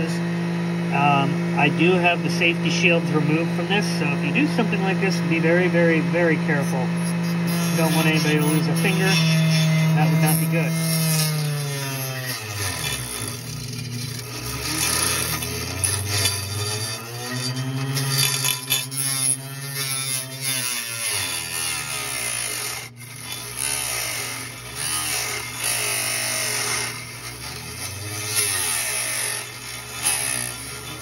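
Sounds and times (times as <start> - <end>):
electric cutting tool whining: 0.0 - 31.0.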